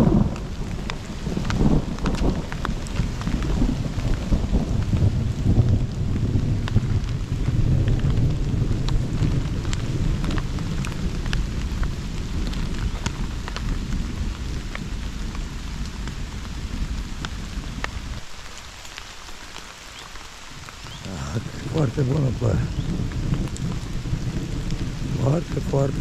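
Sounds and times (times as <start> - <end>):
raindrops ticking sharply: 0.0 - 26.0
steady rain falling: 0.0 - 26.0.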